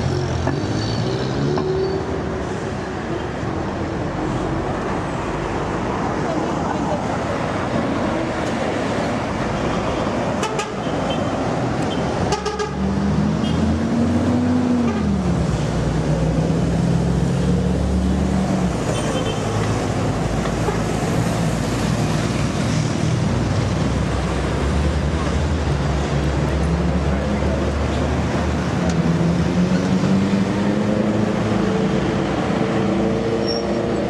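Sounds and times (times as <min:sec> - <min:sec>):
street traffic noise: 0:00.0 - 0:34.0.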